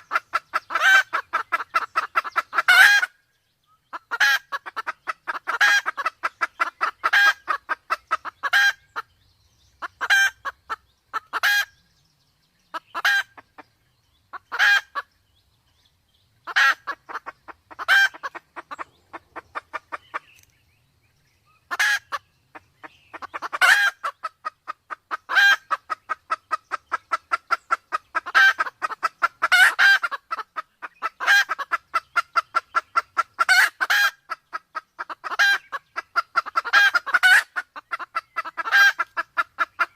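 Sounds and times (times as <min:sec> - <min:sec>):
junglefowl clucking: 0:00.0 - 0:03.2, 0:03.9 - 0:09.1, 0:09.7 - 0:11.8, 0:12.7 - 0:15.1, 0:16.4 - 0:20.5, 0:21.6 - 0:39.9.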